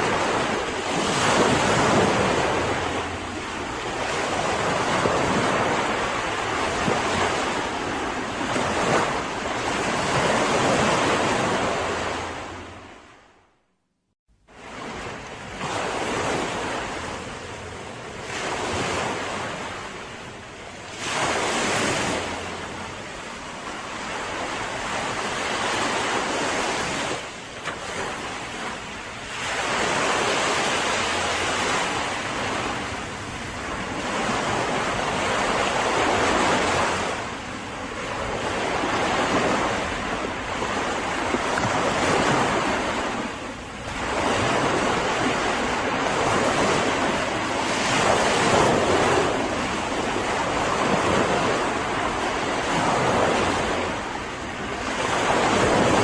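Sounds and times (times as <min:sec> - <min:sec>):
sea waves breaking on beach: 0:00.0 - 0:13.3, 0:14.5 - 0:56.0.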